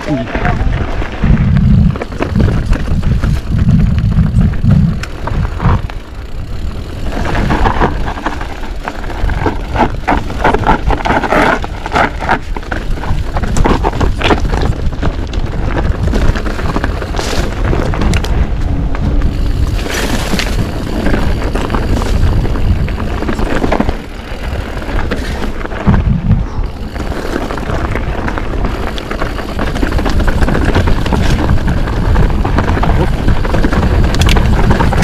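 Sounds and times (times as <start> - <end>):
bike chain and frame rattling: 0.0 - 35.0
wind and rolling tyres rumble: 0.0 - 35.0.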